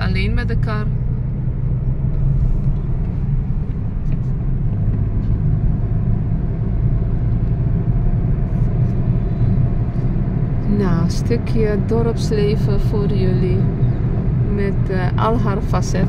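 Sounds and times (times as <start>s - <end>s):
car driving interior rumble: 0.0s - 16.0s.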